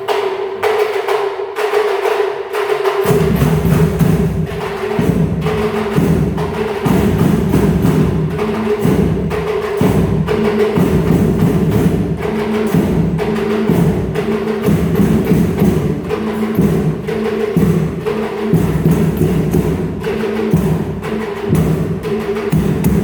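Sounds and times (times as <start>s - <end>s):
drums: 0.1s - 23.0s
sharp regular tapping beat: 2.9s - 23.0s.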